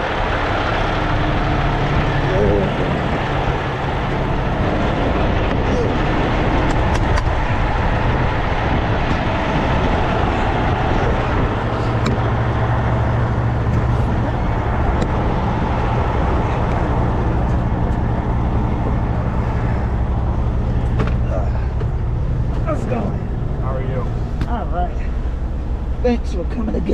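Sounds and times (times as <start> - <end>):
steady rushing noise: 0.0 - 26.9
truck diesel engine humming: 0.0 - 26.9.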